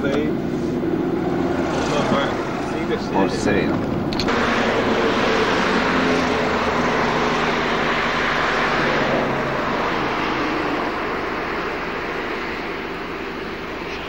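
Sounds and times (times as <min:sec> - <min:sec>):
road noise: 0:00.0 - 0:14.0
vehicle engine hum: 0:00.0 - 0:14.0.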